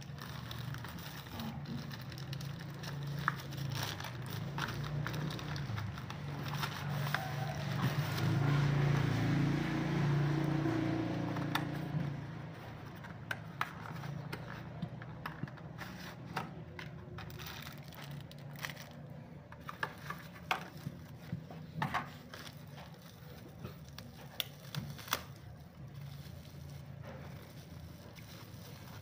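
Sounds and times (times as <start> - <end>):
plastic packaging crinkling: 0.0 - 8.9, 11.0 - 29.0.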